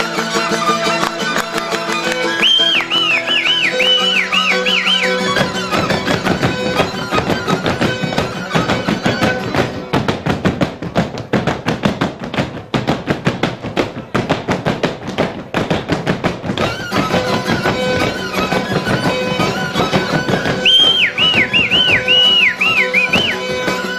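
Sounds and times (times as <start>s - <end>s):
fiddle: 0.0s - 23.9s
guitar: 0.0s - 23.9s.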